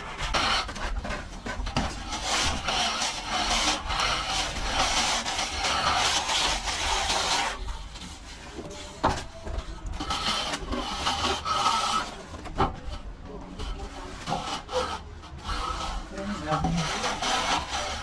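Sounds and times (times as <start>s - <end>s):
trowel scraping plaster: 0.0s - 18.0s.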